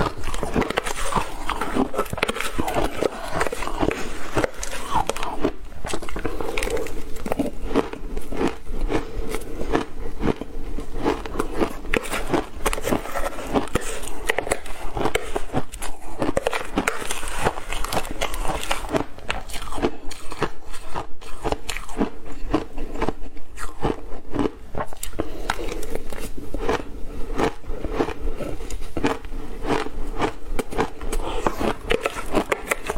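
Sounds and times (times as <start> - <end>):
ice crunching while chewed: 0.0 - 32.9.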